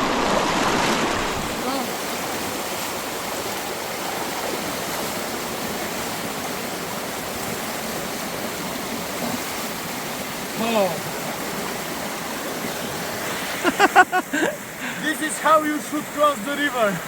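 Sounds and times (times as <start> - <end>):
fast river rushing: 0.0 - 17.0.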